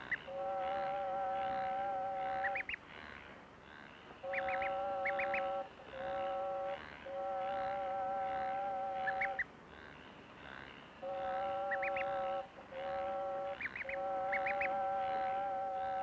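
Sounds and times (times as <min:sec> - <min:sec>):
duckling peeping: 0:00.0 - 0:02.8, 0:04.2 - 0:09.5, 0:11.0 - 0:16.0.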